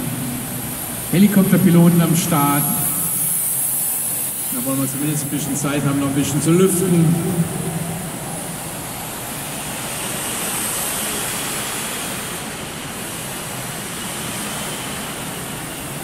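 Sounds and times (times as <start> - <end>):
jet turbine hiss and whine: 0.0 - 16.0.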